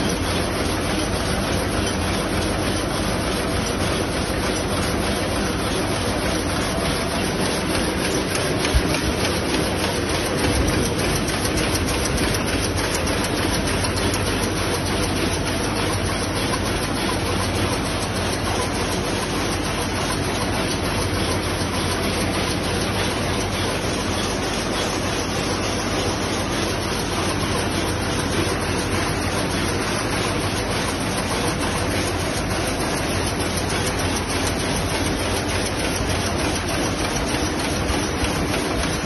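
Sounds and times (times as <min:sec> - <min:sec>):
power loom clattering: 0:00.0 - 0:39.0.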